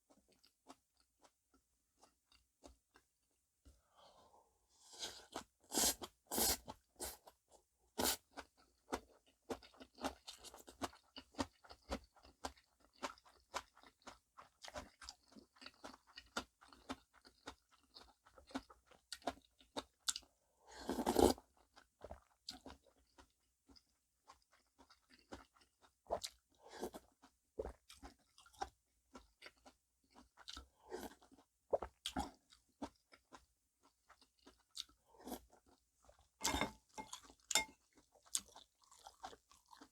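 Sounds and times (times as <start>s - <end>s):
person chewing and crunching: 0.1s - 1.4s, 8.0s - 39.9s.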